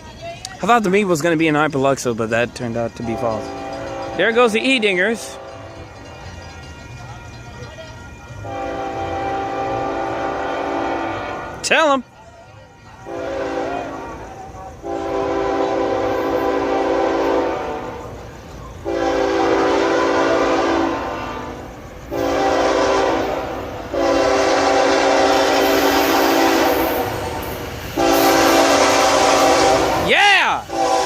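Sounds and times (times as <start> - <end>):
train rumble: 0.0 - 31.0
locomotive air horn blasts: 3.0 - 7.4, 8.4 - 11.8, 13.0 - 18.2, 18.8 - 31.0.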